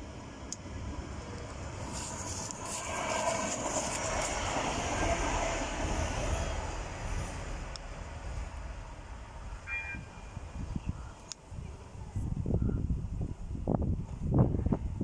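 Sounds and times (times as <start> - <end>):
train passing by: 0.0 - 15.0
wheels rushing on rails: 0.0 - 15.0.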